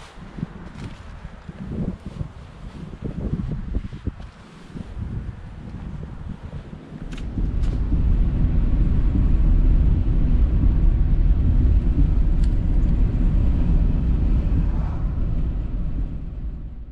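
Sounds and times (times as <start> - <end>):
car engine and road noise: 0.0 - 16.9.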